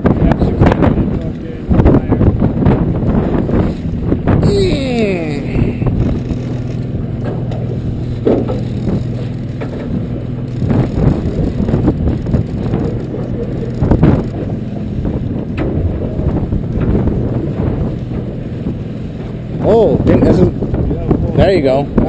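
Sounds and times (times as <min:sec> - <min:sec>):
boat engine hum: 0:00.0 - 0:22.0
wind buffeting microphone: 0:00.0 - 0:22.0.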